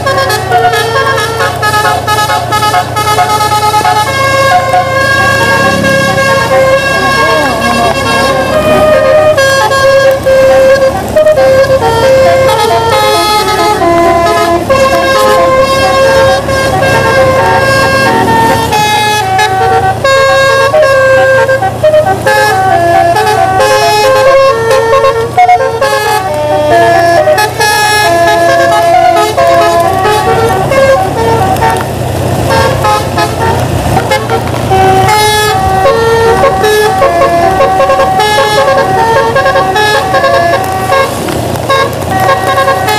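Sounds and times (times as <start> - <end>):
bus engine running: 0.0 - 42.9
musical air horn melody: 0.0 - 42.9.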